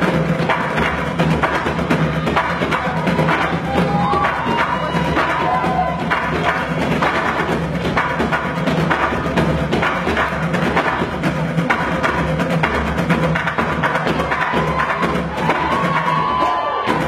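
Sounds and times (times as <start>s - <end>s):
drumming on barrels and buckets: 0.0s - 17.0s.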